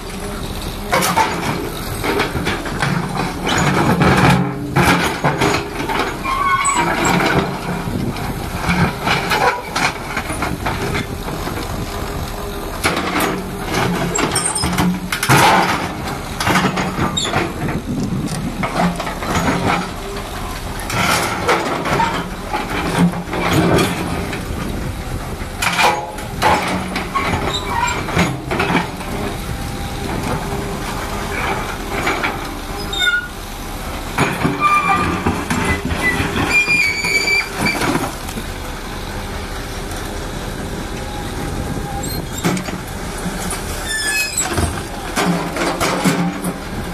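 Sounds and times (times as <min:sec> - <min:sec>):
excavator diesel engine: 0:00.0 - 0:46.9
steel bucket clanking and scraping: 0:00.2 - 0:11.8, 0:12.8 - 0:38.6, 0:41.5 - 0:46.9.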